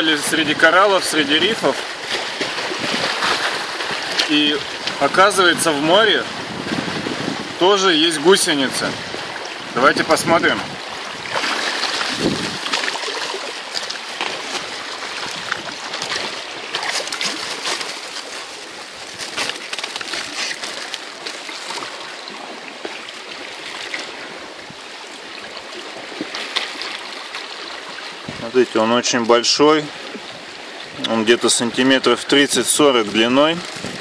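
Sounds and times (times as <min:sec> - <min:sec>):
seawater washing among rocks: 0:00.0 - 0:34.0.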